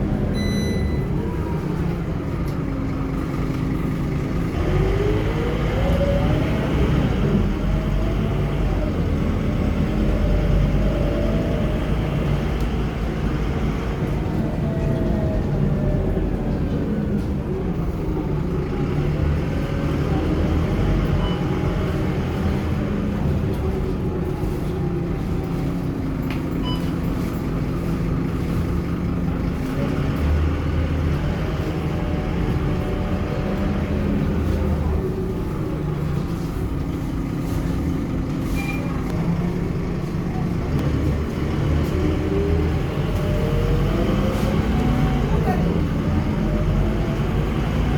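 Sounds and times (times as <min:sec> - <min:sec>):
bus diesel engine accelerating: 0:00.0 - 0:47.9
road noise: 0:00.0 - 0:47.9.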